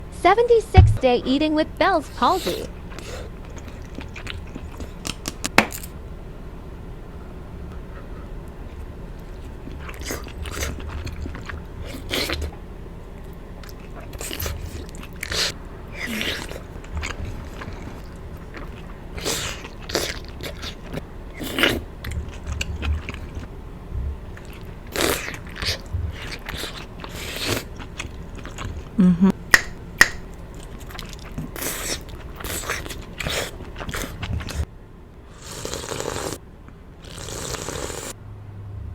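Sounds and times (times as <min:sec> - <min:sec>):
chewing and biting mouth sounds: 0:02.1 - 0:06.0, 0:07.7 - 0:34.7, 0:35.3 - 0:38.1.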